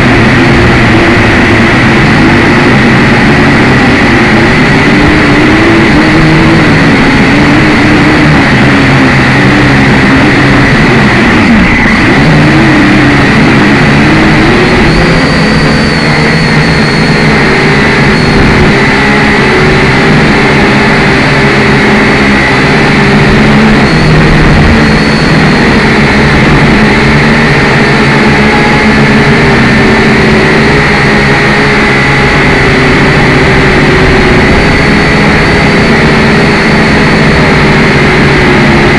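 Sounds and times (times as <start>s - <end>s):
toy quadcopter propellers whining: 0.0s - 38.9s.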